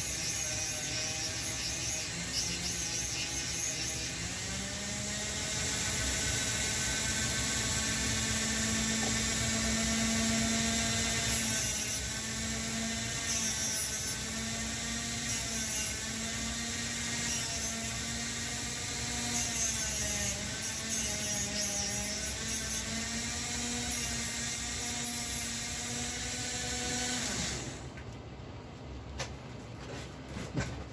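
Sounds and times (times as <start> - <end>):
small electric motor whirring: 0.0 - 27.9.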